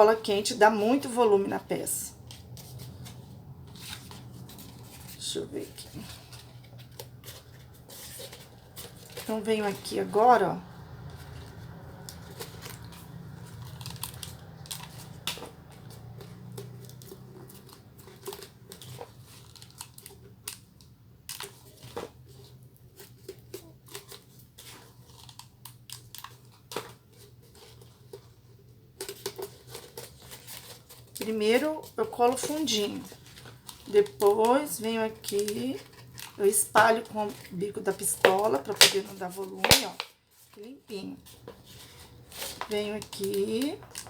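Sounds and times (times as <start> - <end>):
foam and plastic bottle crinkling: 0.0 - 44.0.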